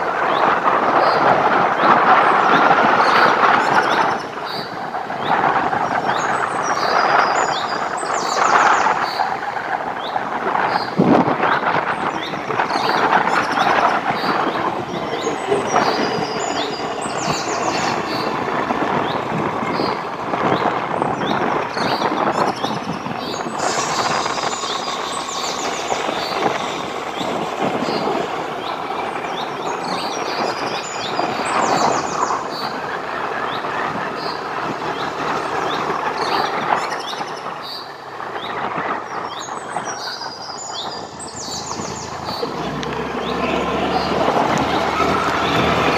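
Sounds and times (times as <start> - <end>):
road and wind noise: 0.0 - 45.9.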